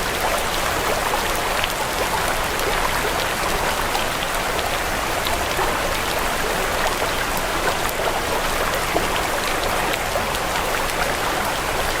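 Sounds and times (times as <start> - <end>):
rain-like water wash: 0.0 - 12.0.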